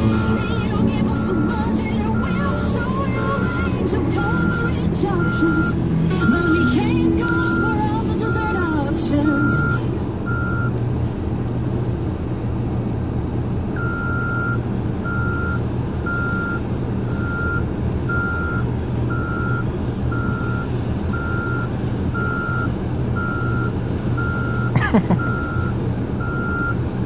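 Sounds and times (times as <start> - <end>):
backup alarm beeping: 0.0 - 10.7, 13.8 - 26.8
low engine drone: 0.0 - 27.0.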